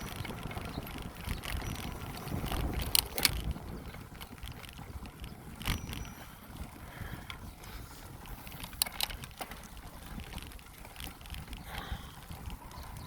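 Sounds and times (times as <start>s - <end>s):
sharp clicks or rattles: 0.0s - 6.1s, 8.2s - 13.0s
bicycle rolling noise: 0.0s - 13.0s
wind rumbling on microphone: 0.0s - 13.0s.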